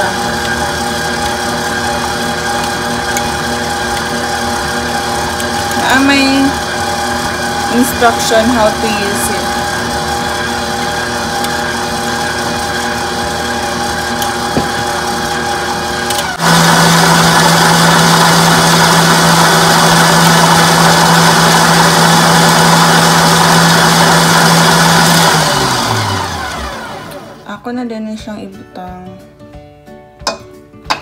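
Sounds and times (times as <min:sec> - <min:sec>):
stand mixer running: 0:00.0 - 0:27.5.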